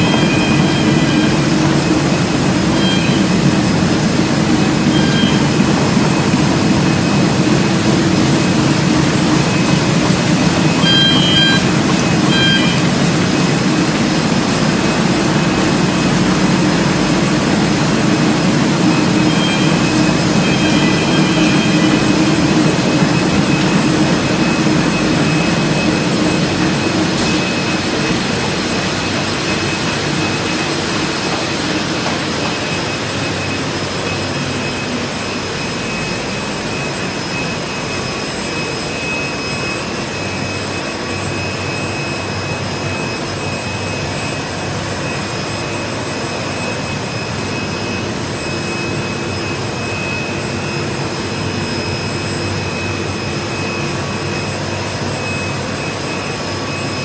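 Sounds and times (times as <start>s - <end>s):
printing press machine din: 0.0s - 57.0s
thin high whine: 0.0s - 57.0s.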